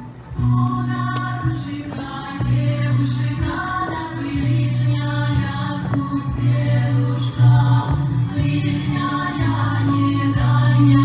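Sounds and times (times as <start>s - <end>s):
low bass line: 0.0s - 11.0s
choir singing folk song: 0.2s - 11.0s.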